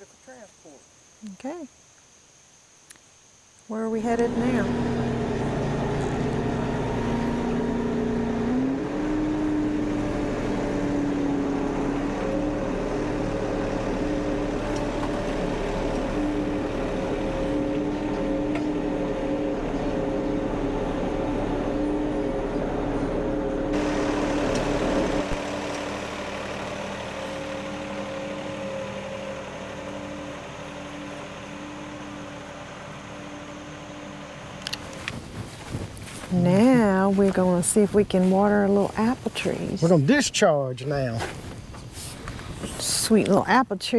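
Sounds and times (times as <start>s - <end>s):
tractor engine running: 4.0s - 43.9s.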